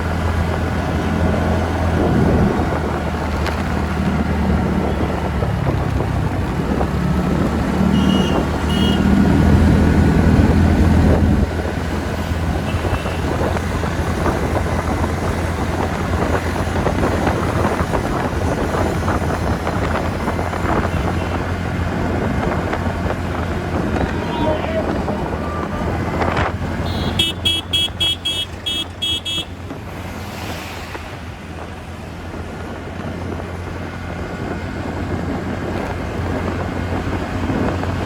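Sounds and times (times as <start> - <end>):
scooter engine drone: 0.0 - 38.0
wind noise on microphone: 0.0 - 38.0.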